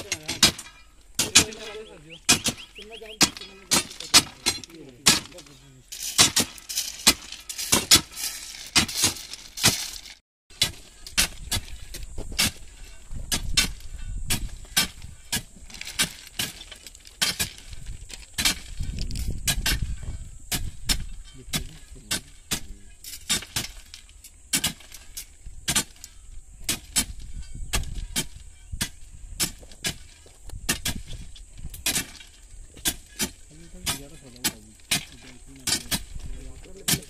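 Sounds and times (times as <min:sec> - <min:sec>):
stones crunching: 0:00.0 - 0:37.0.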